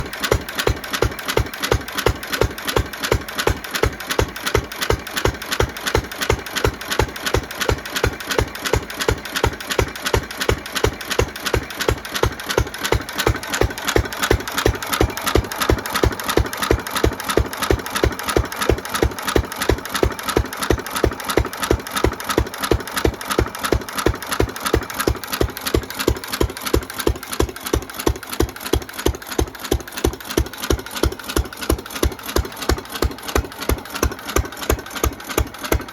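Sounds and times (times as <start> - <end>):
stationary engine running steadily: 0.0 - 35.9.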